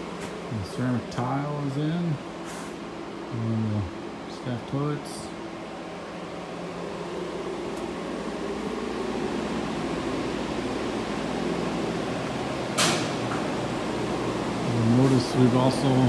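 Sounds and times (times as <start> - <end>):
fan humming and rushing: 0.0 - 16.0.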